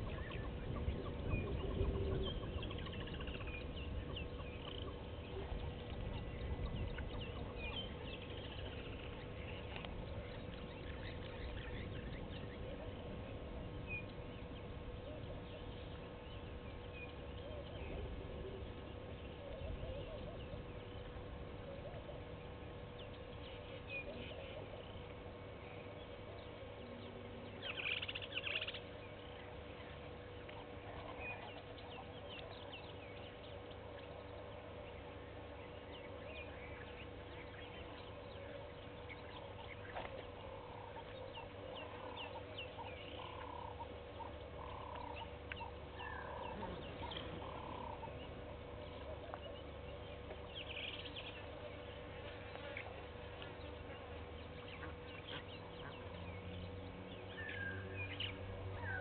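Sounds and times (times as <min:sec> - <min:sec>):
faint steady hum: 0:00.0 - 0:59.0
wild birds calling and chirping: 0:00.0 - 0:59.0.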